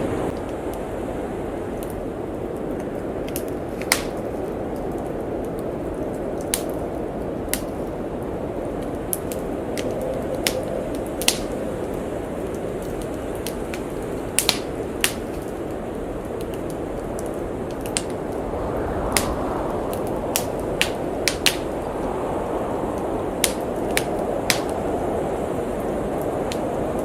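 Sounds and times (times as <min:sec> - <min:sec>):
fireplace crackling and popping: 0:00.0 - 0:27.0
howling blizzard wind: 0:00.0 - 0:27.0.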